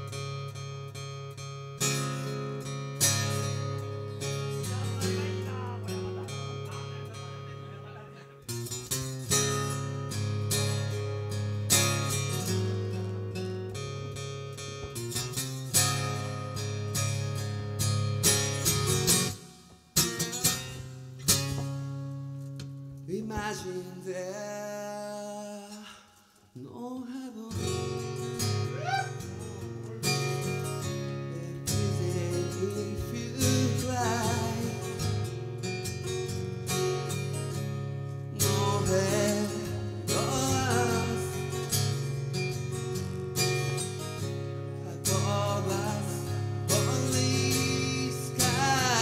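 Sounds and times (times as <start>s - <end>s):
strummed guitar: 0.0s - 49.0s.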